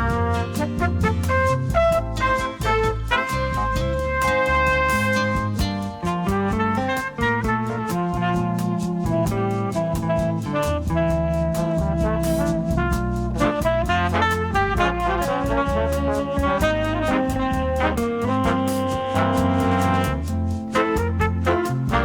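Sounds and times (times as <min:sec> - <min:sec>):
easy-listening instrumental music: 0:00.0 - 0:22.0.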